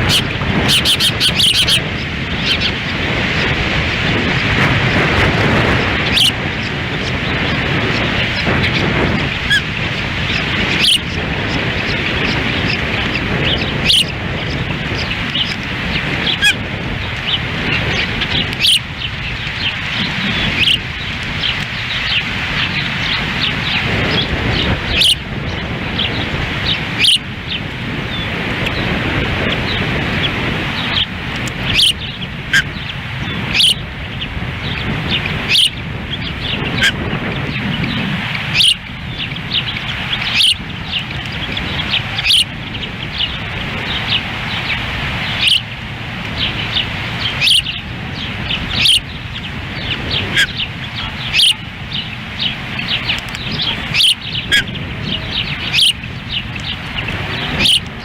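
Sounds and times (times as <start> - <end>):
osprey chirps: 0.0 - 3.6, 5.6 - 28.9, 29.5 - 58.0
wind on microphone: 0.0 - 58.0.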